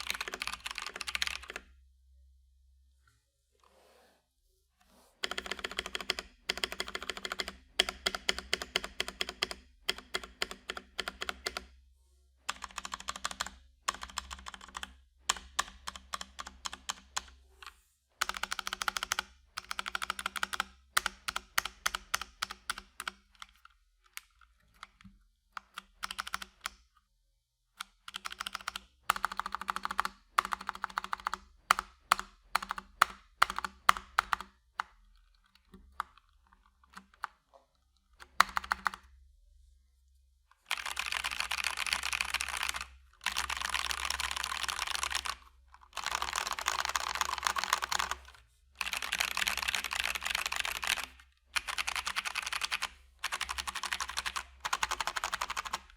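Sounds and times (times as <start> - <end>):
clicky mechanical keyboard typing: 0.0 - 1.7, 5.2 - 11.7, 12.5 - 17.4, 18.2 - 26.9, 27.8 - 39.2, 40.7 - 55.9.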